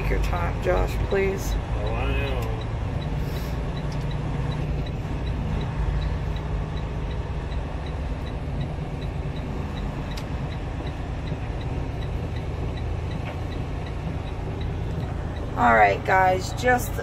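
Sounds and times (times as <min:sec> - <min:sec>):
faint regular ticking: 0:00.0 - 0:17.0
truck engine and road rumble: 0:00.0 - 0:17.0.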